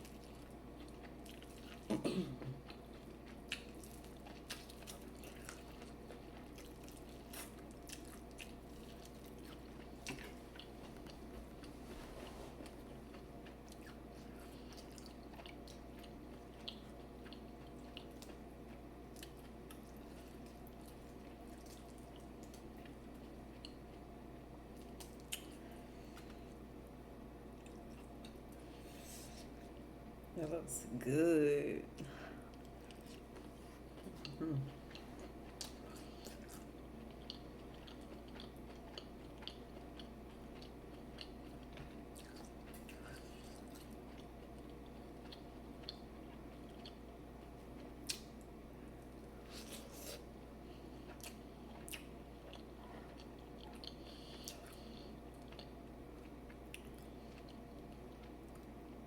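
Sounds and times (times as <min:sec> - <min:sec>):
person chewing: 0:00.0 - 0:24.1, 0:24.7 - 0:26.6, 0:32.4 - 0:58.8
steady low hum: 0:00.0 - 0:59.0.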